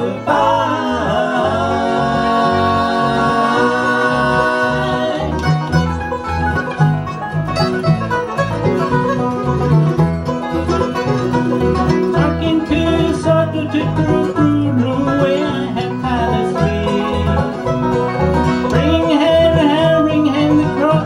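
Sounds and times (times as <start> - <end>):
banjo: 0.0 - 21.0
guitar: 0.0 - 21.0
pulsing bass line: 0.0 - 21.0.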